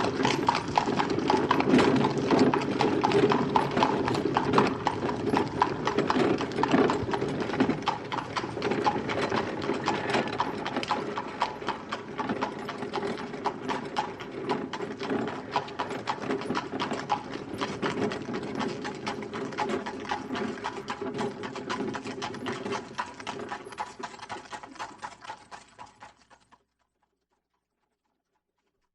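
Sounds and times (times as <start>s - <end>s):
wagon rattling: 0.0s - 26.6s
horse hooves clip-clopping: 0.0s - 28.9s.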